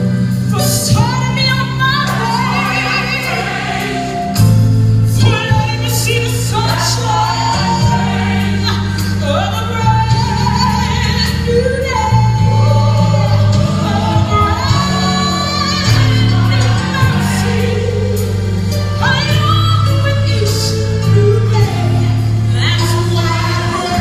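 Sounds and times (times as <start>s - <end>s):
gospel singing over backing track: 0.0s - 24.0s.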